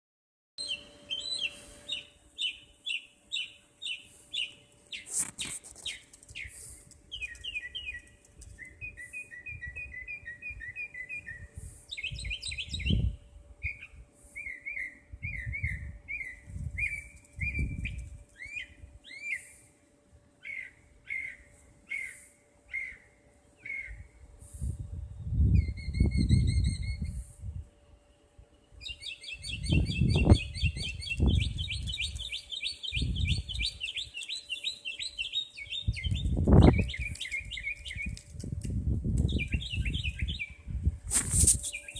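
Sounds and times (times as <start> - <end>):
faint steady hum: 0.6 - 41.9
songbird singing: 0.6 - 41.9.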